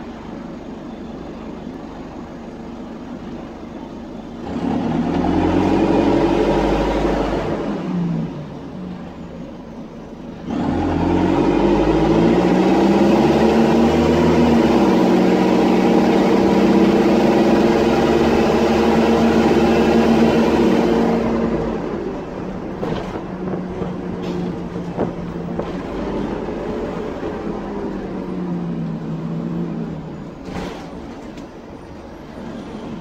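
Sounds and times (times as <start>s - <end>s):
bus diesel engine: 0.0s - 33.0s.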